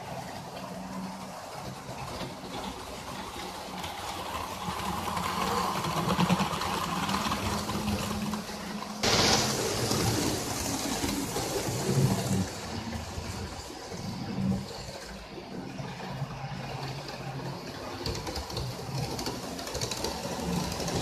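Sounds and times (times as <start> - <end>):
model train motor hum: 0.0 - 21.0
wheels clicking over rails: 0.0 - 21.0.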